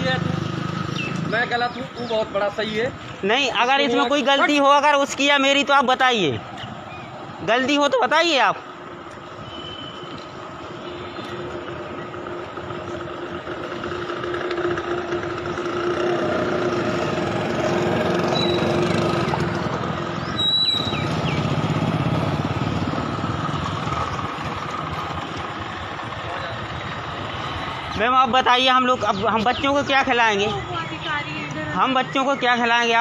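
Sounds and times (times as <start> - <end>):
vehicle engines running: 0.0 - 33.0.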